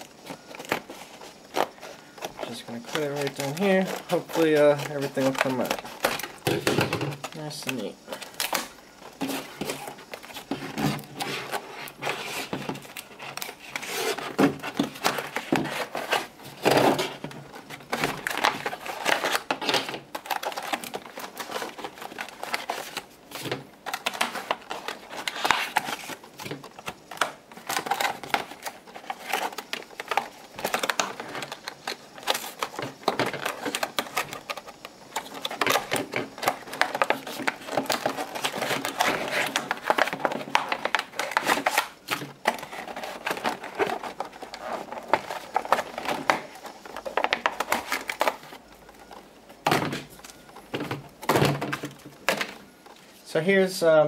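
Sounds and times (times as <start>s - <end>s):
packaging rustling and crinkling: 0.0s - 54.0s.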